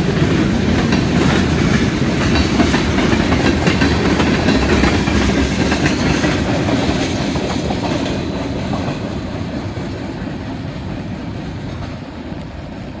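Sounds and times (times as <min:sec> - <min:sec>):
freight train cars rolling on rails: 0:00.0 - 0:13.0.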